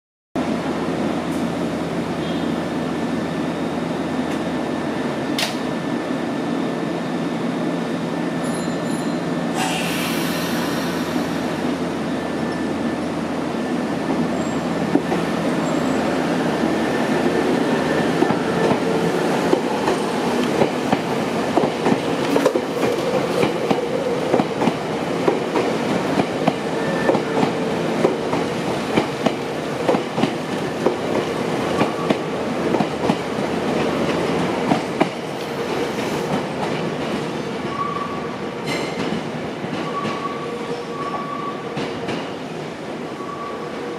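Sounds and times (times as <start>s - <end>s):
electric train running past: 0.4s - 43.9s.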